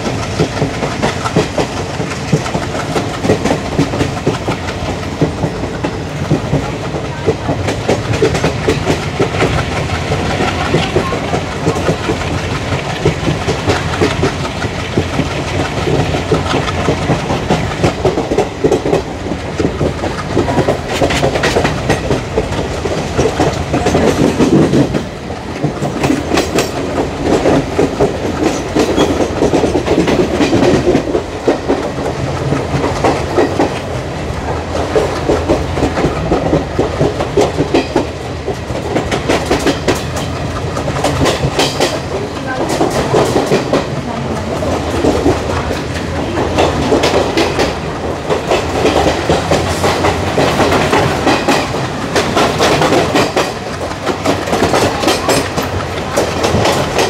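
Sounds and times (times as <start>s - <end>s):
steady train rumble: 0.0s - 57.0s
train wheels clattering over rail joints: 0.0s - 57.0s.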